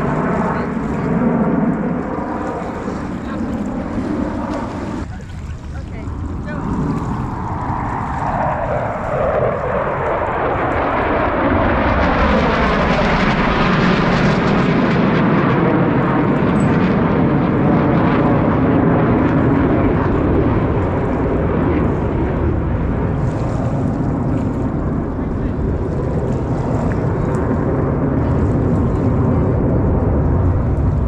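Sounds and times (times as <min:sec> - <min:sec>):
jet roar: 0:00.0 - 0:31.0.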